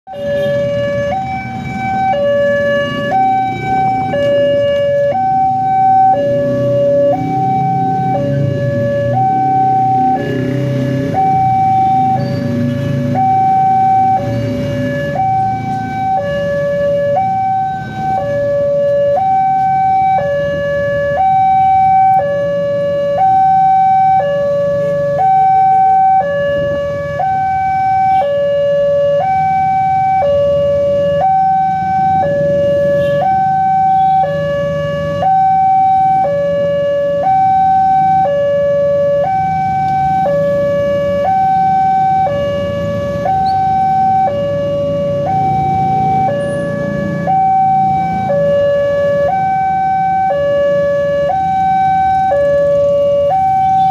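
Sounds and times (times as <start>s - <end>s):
road traffic hum: 0.1s - 53.9s
two-tone level-crossing alarm: 0.1s - 53.9s.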